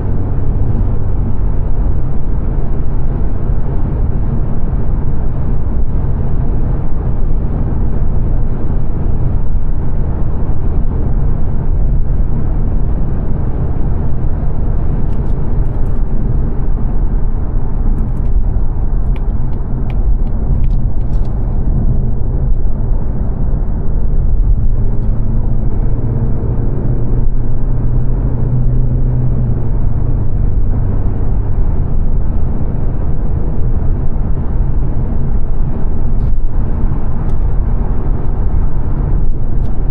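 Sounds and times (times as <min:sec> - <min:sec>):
car engine hum: 0:00.0 - 0:39.9
tyre and road roar: 0:00.0 - 0:39.9.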